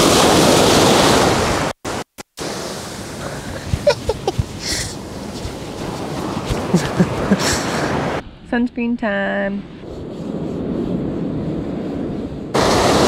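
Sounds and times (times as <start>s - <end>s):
ocean surf breaking on beach: 0.0s - 8.2s, 9.8s - 13.0s
wind: 0.0s - 13.0s.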